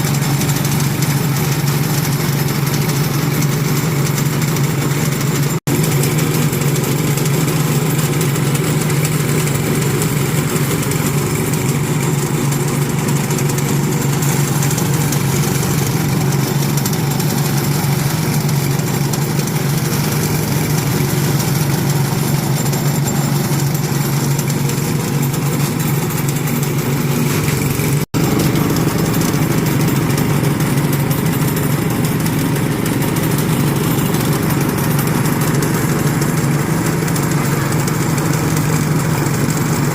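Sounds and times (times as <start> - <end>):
shredder running at high revs: 0.0 - 39.9.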